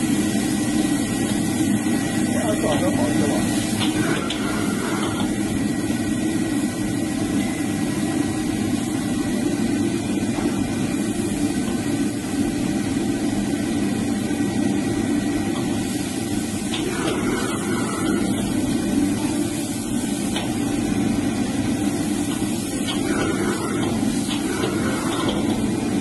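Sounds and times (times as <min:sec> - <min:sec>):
food sizzling in a wok: 0:00.0 - 0:26.0
gas burner roaring: 0:00.0 - 0:26.0.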